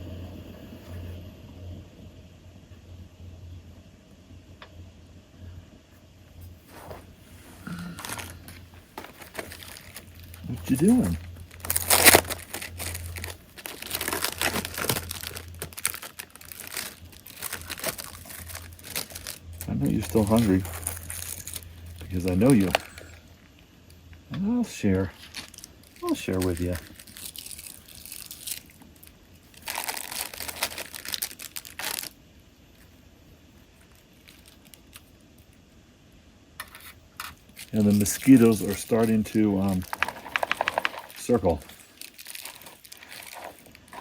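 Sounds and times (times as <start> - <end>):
crinkling and rustling: 6.3 - 35.6, 36.6 - 44.0.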